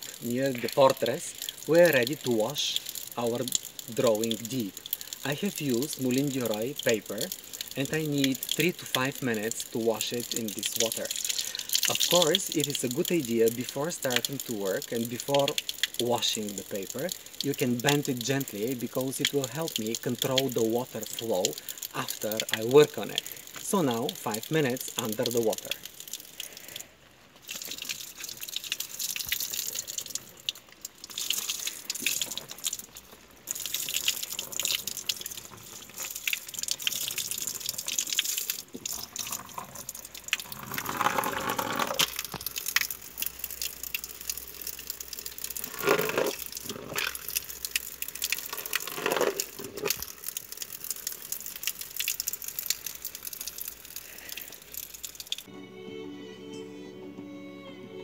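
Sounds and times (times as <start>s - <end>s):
water splashing onto paper: 0.0s - 55.5s.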